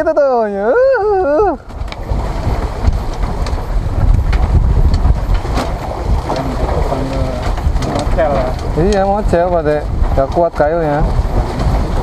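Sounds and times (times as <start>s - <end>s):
choppy sea water: 0.0s - 12.0s
wind buffeting microphone: 0.0s - 12.0s.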